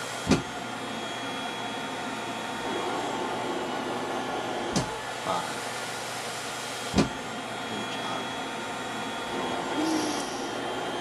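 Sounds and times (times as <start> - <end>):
machine blower running: 0.0 - 11.0.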